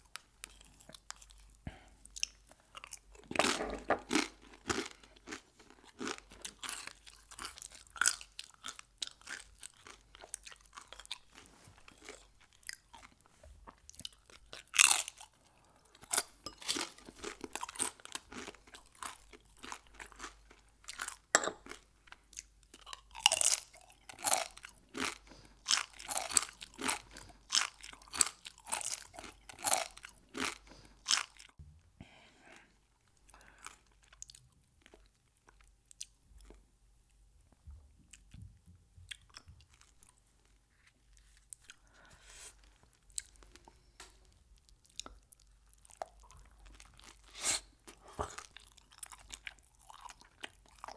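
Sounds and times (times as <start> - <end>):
person chewing crunchy food: 0.0 - 31.6, 32.5 - 36.6, 39.1 - 50.9.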